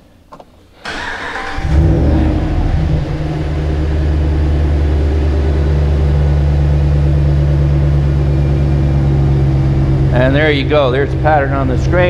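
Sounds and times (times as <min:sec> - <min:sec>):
car engine idling: 0:00.9 - 0:12.0.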